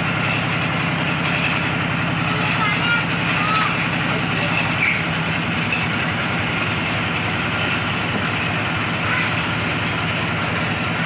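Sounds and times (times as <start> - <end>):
stationary engine running: 0.0 - 11.0.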